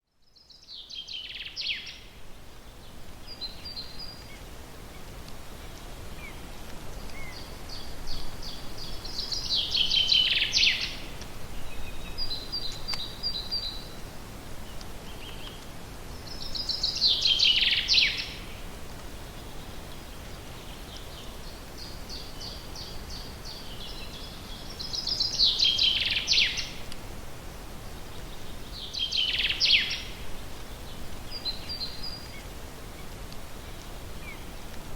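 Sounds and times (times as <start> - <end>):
forest background hiss: 0.0 - 34.9
songbird singing: 0.0 - 34.9.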